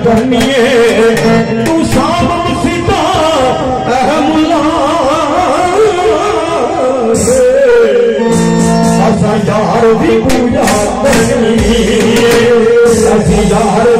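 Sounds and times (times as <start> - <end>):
electronic keyboard: 0.0 - 13.9
man singing into microphone: 0.0 - 13.9.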